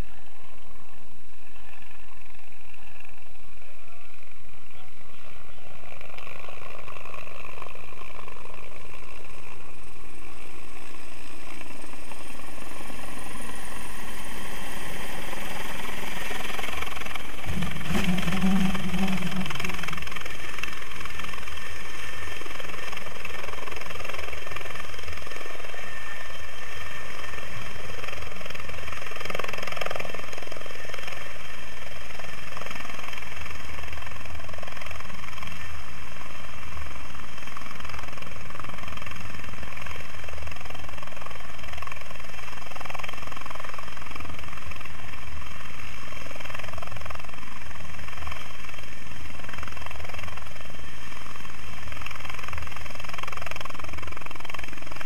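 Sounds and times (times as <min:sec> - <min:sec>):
helicopter rotor and engines: 0:00.0 - 0:55.0.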